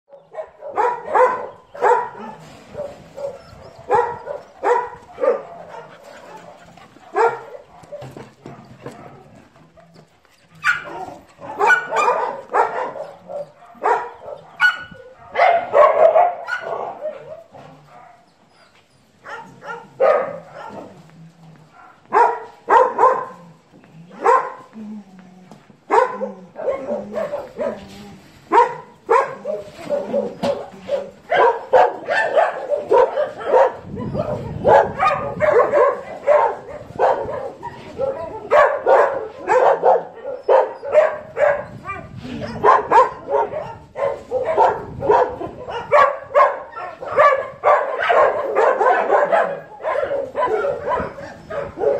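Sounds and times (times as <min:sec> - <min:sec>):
dogs barking: 0:00.1 - 0:24.8, 0:25.8 - 0:51.9.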